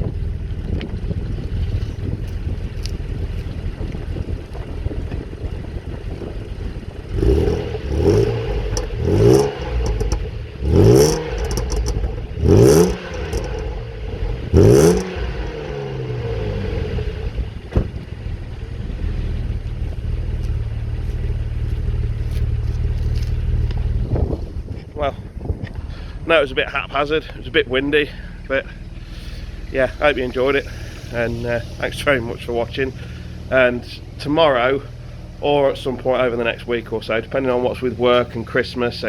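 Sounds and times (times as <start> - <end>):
car engine revving and idling: 0.0 - 39.0.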